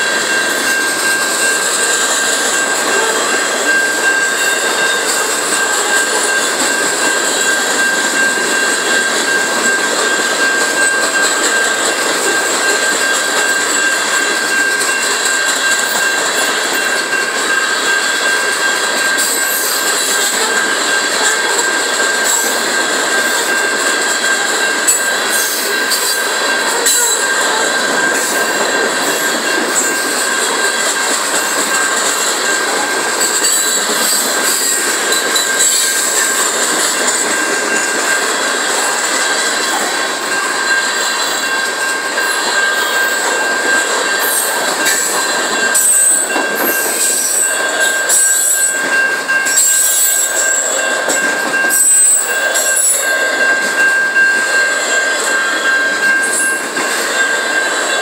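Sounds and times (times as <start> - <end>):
train wheels clattering on rail: 0.0 - 58.0.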